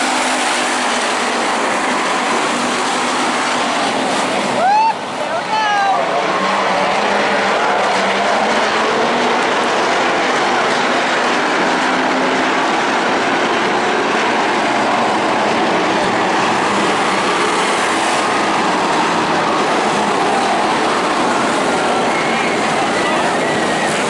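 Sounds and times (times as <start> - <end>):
stock car engines racing: 0.0 - 24.0.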